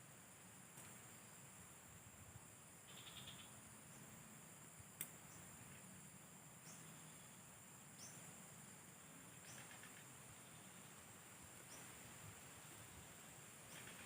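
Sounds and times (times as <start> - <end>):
crickets humming: 0.0 - 14.0.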